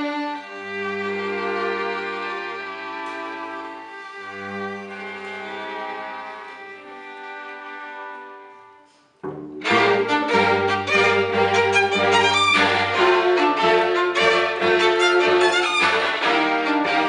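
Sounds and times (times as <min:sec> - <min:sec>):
low bowed instrument held notes: 0:00.0 - 0:17.0
violin playing quick notes: 0:00.0 - 0:17.0.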